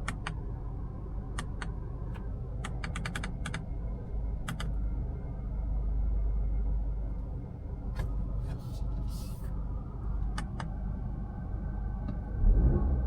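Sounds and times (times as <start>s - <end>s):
low cabin rumble: 0.0s - 13.0s.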